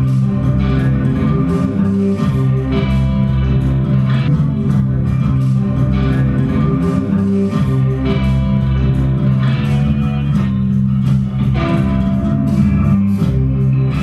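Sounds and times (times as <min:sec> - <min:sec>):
electric bass line: 0:00.0 - 0:14.0
electric guitar playing: 0:00.0 - 0:14.0.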